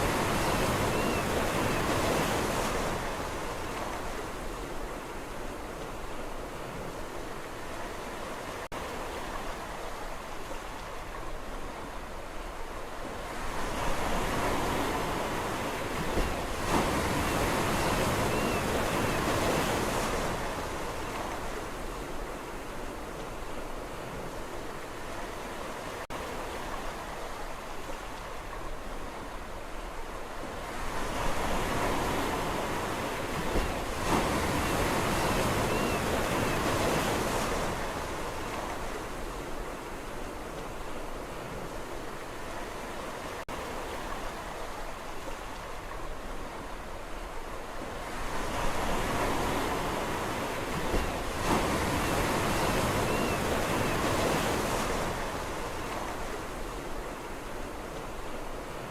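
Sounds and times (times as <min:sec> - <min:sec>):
sea waves on a shore: 0:00.0 - 0:58.9.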